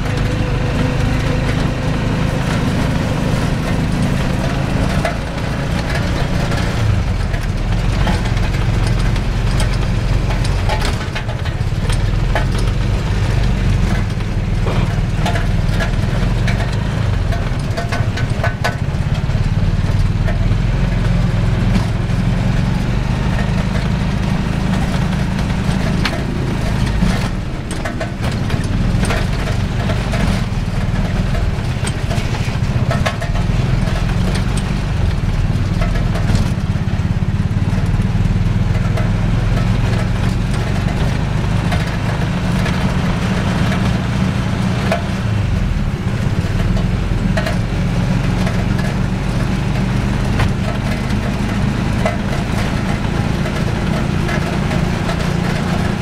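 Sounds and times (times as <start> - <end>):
knocks and rattles: 0.0 - 56.0
small motorcycle engine running: 0.0 - 56.0.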